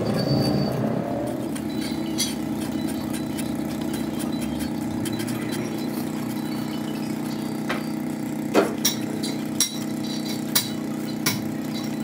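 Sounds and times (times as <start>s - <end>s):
mechanical hum: 0.0s - 12.0s
metal parts clinking: 0.0s - 12.0s.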